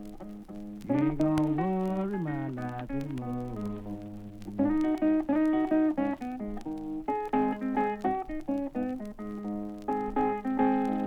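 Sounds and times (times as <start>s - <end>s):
blues guitar licks: 0.0s - 11.0s.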